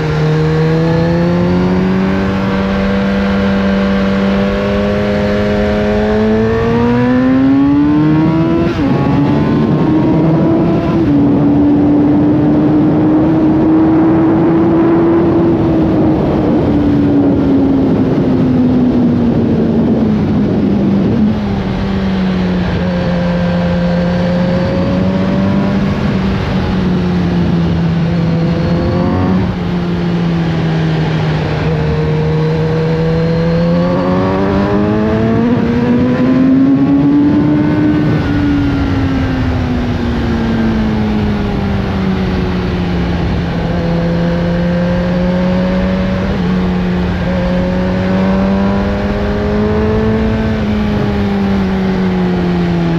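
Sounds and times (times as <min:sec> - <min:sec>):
motorcycle engine revving: 0:00.0 - 0:52.9
wind noise rushing: 0:00.0 - 0:52.9.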